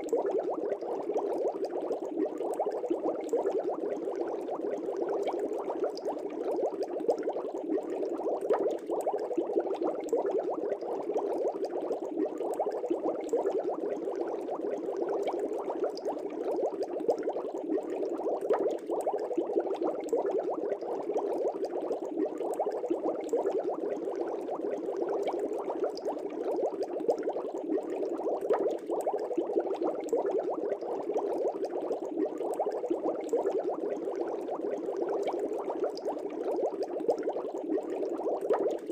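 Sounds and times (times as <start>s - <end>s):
aquarium air bubbles: 0.0s - 38.9s.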